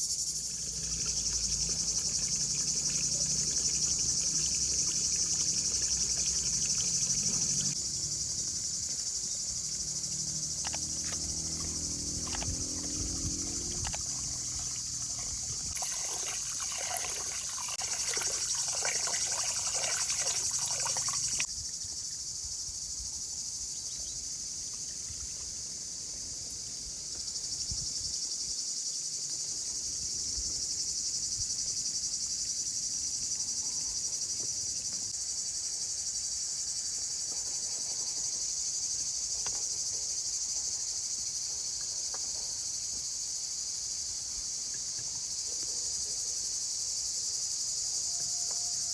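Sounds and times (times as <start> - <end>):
insects chorus: 0.0 - 48.9.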